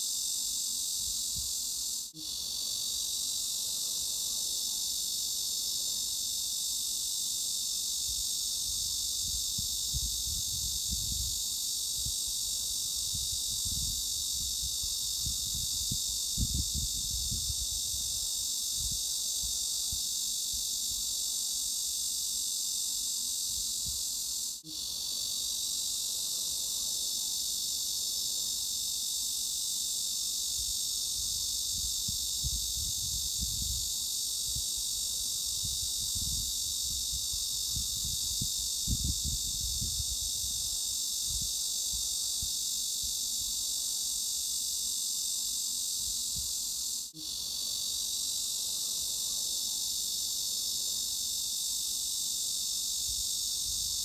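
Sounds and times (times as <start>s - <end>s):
high-pitched cicada drone: 0.0s - 54.0s.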